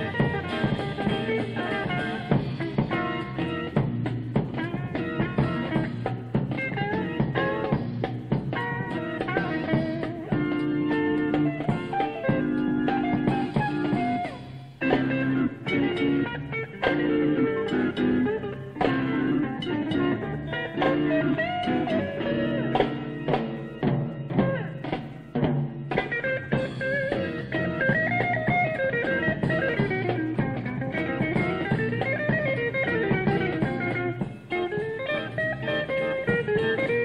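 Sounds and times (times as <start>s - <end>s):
band playing instrumental: 0.0s - 37.0s
drum strokes: 0.0s - 37.0s.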